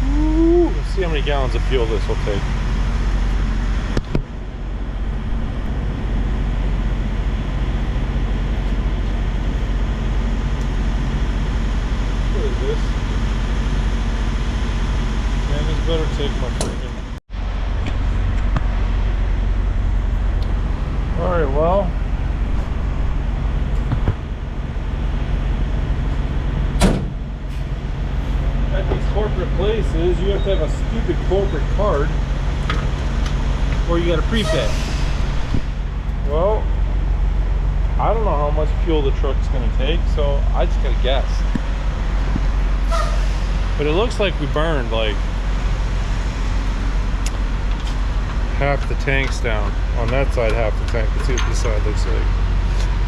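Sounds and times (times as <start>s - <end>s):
low vehicle rumble: 0.0s - 53.0s.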